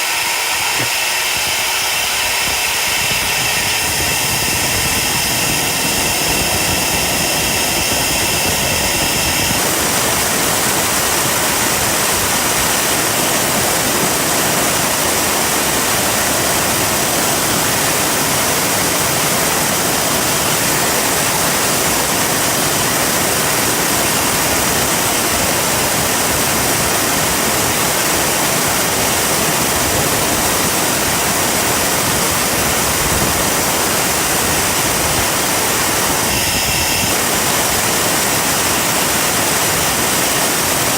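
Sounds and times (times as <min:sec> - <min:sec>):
jet engine roaring: 0:00.0 - 0:40.9.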